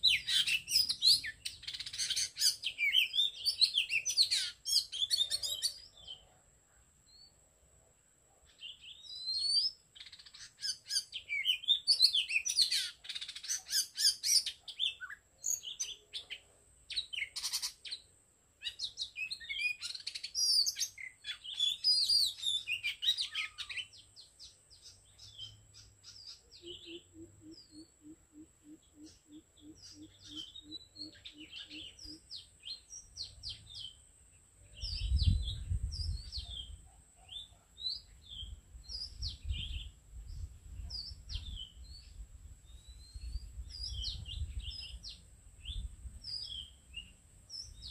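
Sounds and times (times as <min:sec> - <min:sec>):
bird singing: 0:00.0 - 0:07.4, 0:08.4 - 0:47.9.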